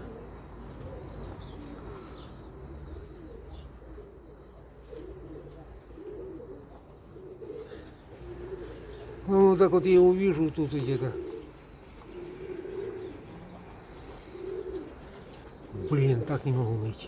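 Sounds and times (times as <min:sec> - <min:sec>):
pigeons cooing: 0:00.0 - 0:17.0
small birds chirping: 0:00.0 - 0:17.0.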